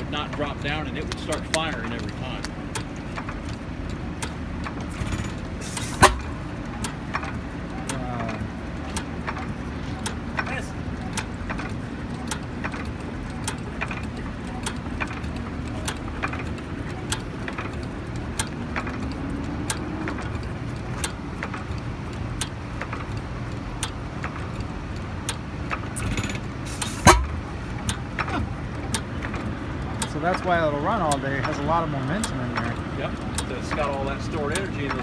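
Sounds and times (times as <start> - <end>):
engine clicking: 0.0 - 35.0
stationary engine rumbling: 0.0 - 35.0.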